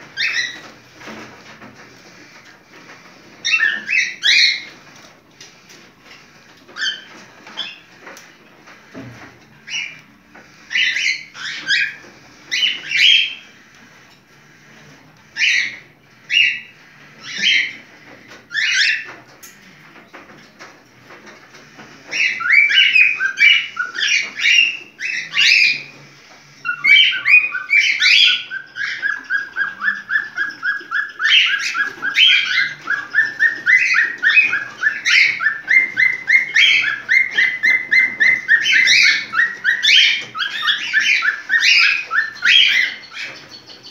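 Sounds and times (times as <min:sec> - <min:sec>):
cockatiel chirping: 0:00.0 - 0:02.2, 0:03.4 - 0:05.1, 0:06.7 - 0:08.2, 0:09.7 - 0:13.6, 0:15.3 - 0:19.2, 0:21.6 - 0:43.9.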